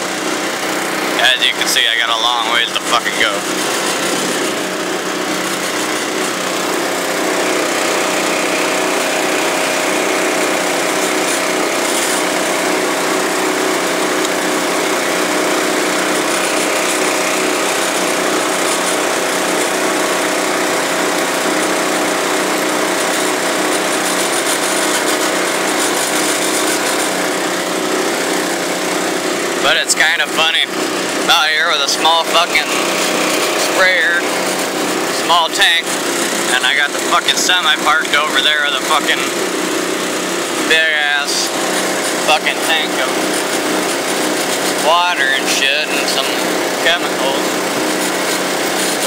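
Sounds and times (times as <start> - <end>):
diesel utility vehicle engine: 0.0 - 49.0
small gasoline pump engine: 0.0 - 49.0.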